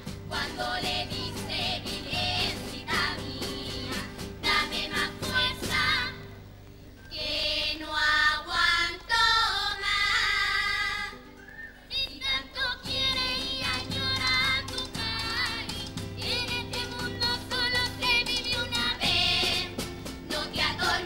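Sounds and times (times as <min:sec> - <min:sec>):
guitar: 0:00.0 - 0:07.2, 0:10.6 - 0:21.0
girls singing in a choir: 0:00.2 - 0:06.3, 0:07.1 - 0:11.2, 0:11.9 - 0:21.0.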